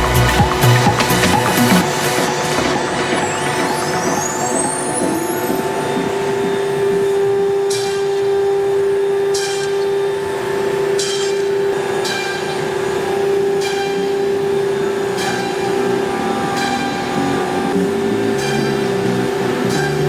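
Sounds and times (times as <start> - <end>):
cnc router cutting: 0.0 - 20.0.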